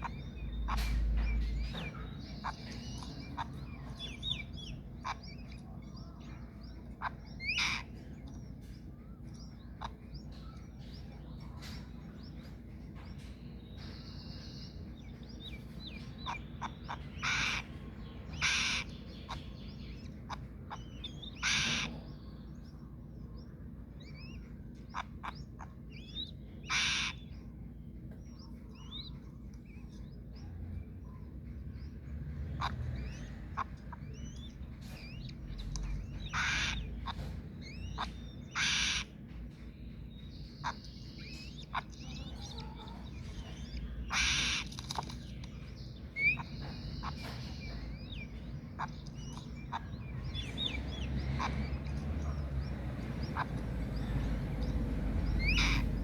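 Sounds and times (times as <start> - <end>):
harsh hissing bird calls: 0.0 - 12.4, 13.1 - 27.5, 31.8 - 39.2, 40.2 - 56.0.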